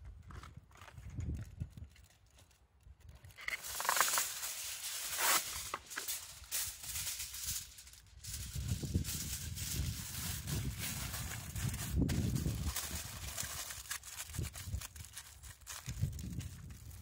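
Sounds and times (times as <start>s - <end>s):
aluminium foil crackling: 1.3s - 17.0s
foil tearing: 3.0s - 17.0s.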